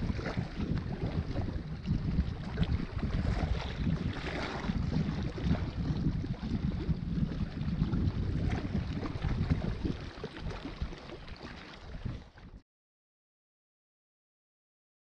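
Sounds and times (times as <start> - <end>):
waves lapping against rocks: 0.0 - 12.6
wind buffeting microphone: 0.0 - 12.6.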